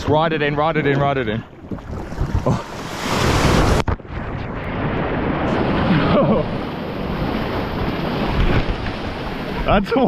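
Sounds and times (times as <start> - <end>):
wind buffeting microphone: 1.5 - 9.9
wave breaking over boat: 1.7 - 10.0.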